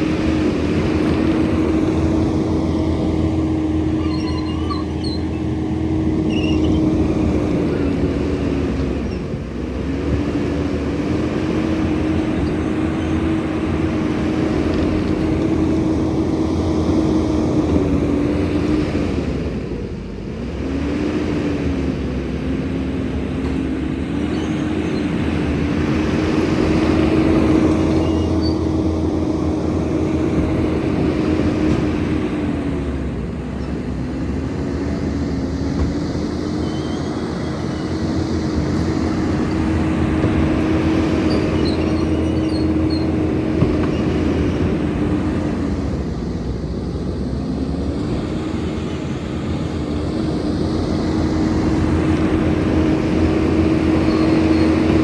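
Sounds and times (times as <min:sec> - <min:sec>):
diesel engine at high revs: 0:00.0 - 0:55.0.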